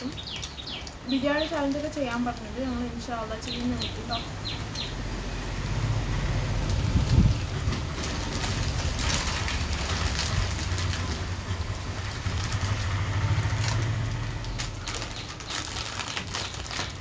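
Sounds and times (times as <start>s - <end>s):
foil packets crinkling: 0.0s - 4.0s, 6.6s - 17.0s.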